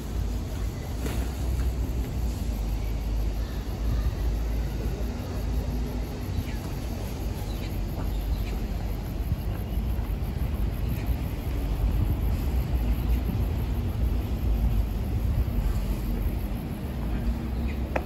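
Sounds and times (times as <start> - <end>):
low street rumble: 0.0 - 18.0.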